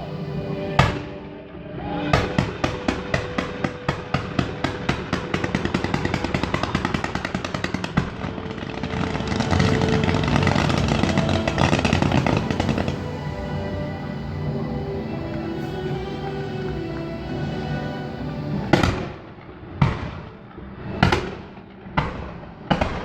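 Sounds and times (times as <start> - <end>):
fireworks banging: 2.0 - 23.0.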